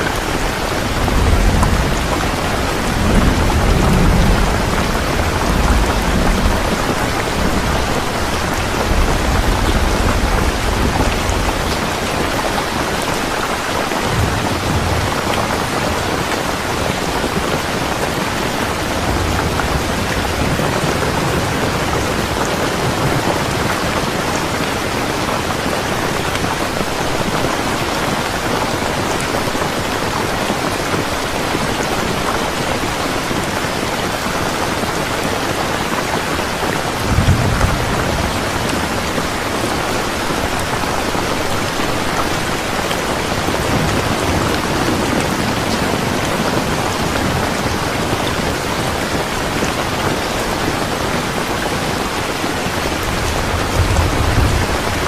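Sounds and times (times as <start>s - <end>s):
distant thunder rumble: 0.0s - 27.5s, 36.3s - 50.8s, 51.4s - 55.0s
heavy rain falling: 0.0s - 55.0s.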